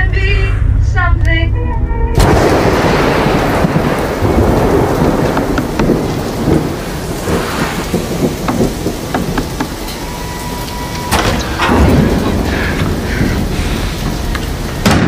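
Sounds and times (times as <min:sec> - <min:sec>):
deep rumble: 0:00.0 - 0:15.0.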